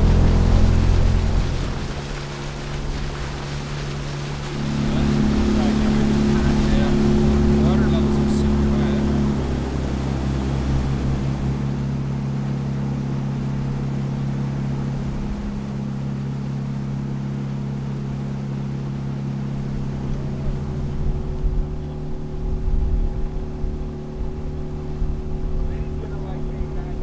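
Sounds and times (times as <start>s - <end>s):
motorboat engine running: 0.0s - 27.0s
water noise: 0.0s - 27.0s
wind: 0.0s - 27.0s.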